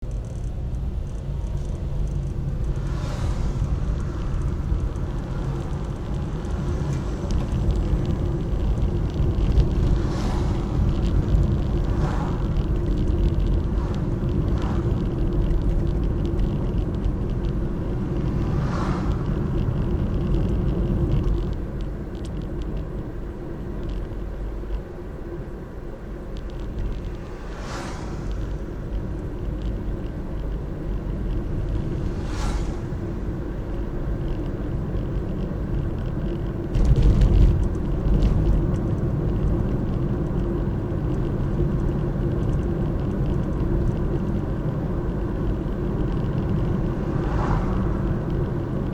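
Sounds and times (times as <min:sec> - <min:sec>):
road traffic rumble: 0:00.0 - 0:48.9
vehicles swishing by: 0:00.0 - 0:48.9.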